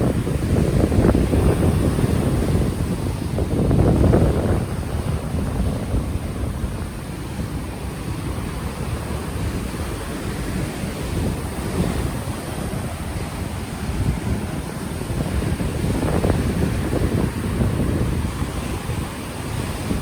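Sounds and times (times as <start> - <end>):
ocean waves washing ashore: 0.0 - 20.0
wind buffeting microphone: 0.0 - 20.0.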